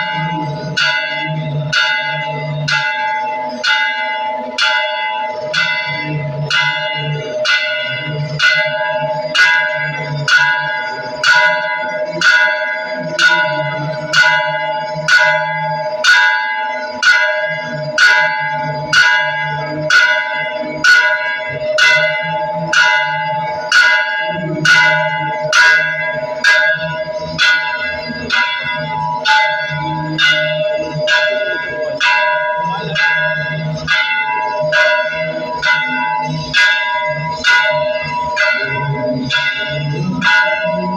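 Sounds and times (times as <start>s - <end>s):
temple bell ringing: 0.0s - 40.9s.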